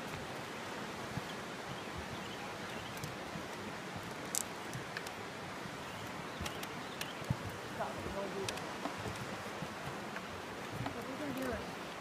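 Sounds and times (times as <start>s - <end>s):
footsteps on wooden bridge: 0.0s - 12.0s.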